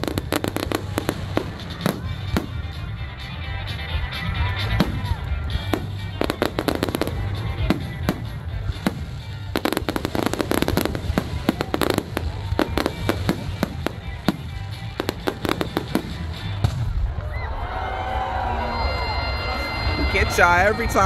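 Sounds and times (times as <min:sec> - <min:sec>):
fireworks bangs and crackles: 0:00.0 - 0:17.6
music playing: 0:00.0 - 0:21.0.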